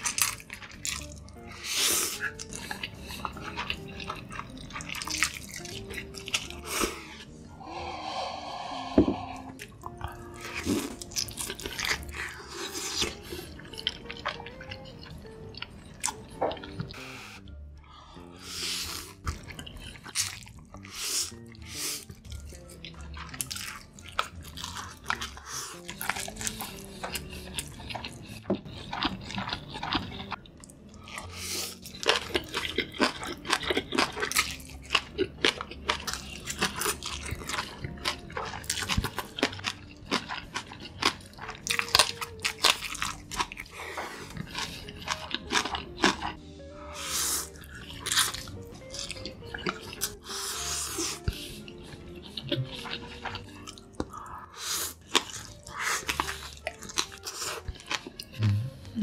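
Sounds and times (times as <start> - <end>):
background music: 0.0 - 59.0
slurping and chewing noodles: 0.0 - 59.0.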